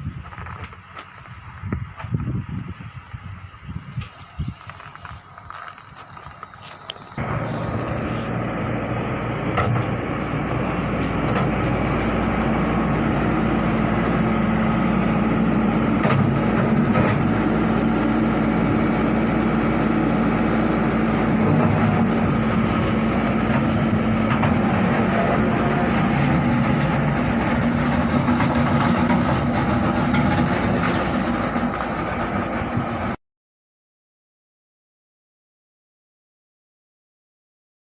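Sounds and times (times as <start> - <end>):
vehicle engine humming: 0.0 - 33.2.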